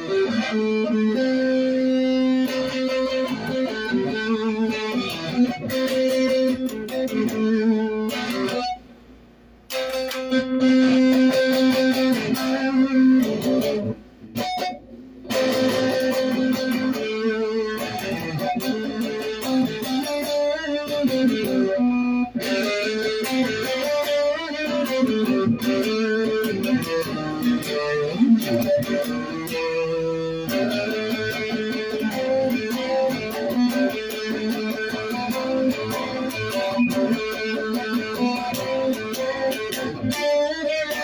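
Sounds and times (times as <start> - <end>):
electric guitar playing: 0.0 - 9.0, 9.7 - 41.0.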